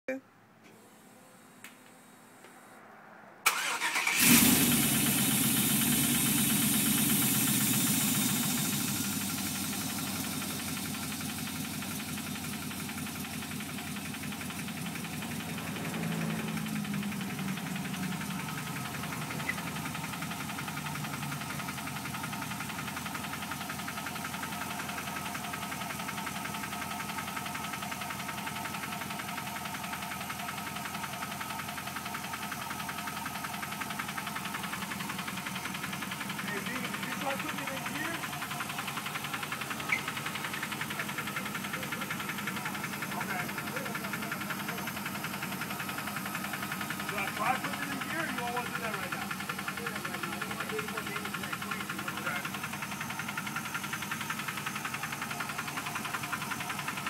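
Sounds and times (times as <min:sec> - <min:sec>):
car engine starting: 0:00.6 - 0:57.0
engine idling with rhythmic knock: 0:03.5 - 0:57.0.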